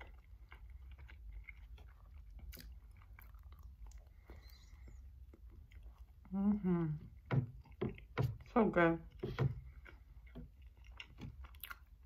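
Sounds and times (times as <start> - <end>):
close-up chewing: 0.0 - 12.0
low steady hum: 0.0 - 12.0.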